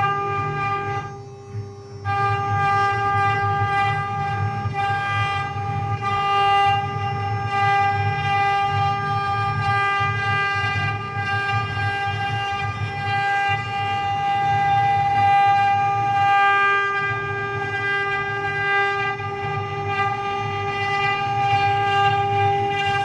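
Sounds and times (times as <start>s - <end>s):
cnc machine high-pitched whine: 0.0s - 23.0s
low hum: 0.0s - 23.0s.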